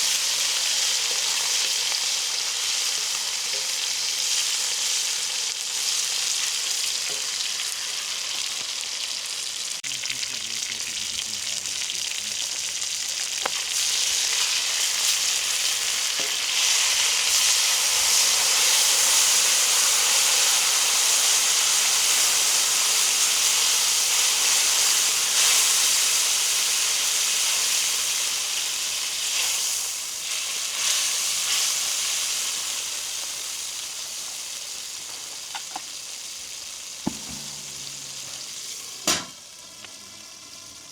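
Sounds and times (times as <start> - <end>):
chicken sizzling on a griddle: 0.0 - 40.9.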